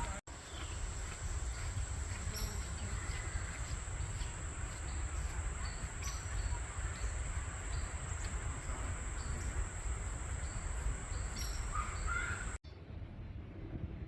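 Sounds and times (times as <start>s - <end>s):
insects trilling: 1.2s - 12.6s.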